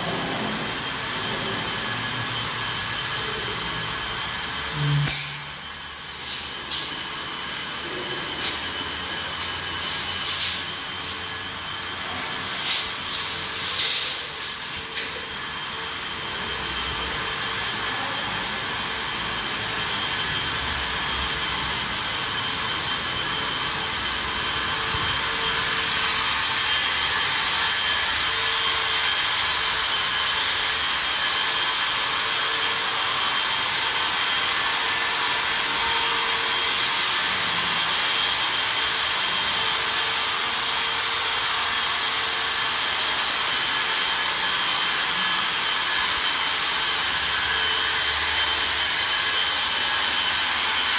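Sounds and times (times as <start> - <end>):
machine rushing noise with whine: 0.0 - 50.9.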